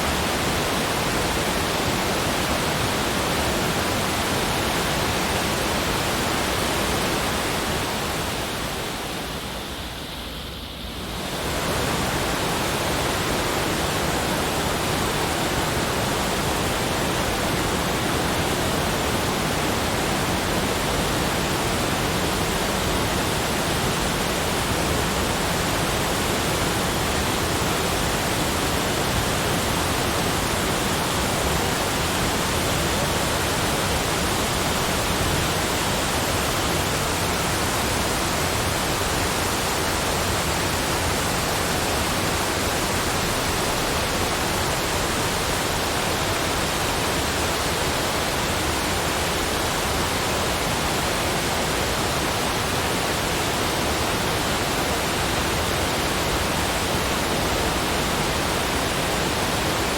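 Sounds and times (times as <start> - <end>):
continuous rushing noise: 0.0 - 59.9.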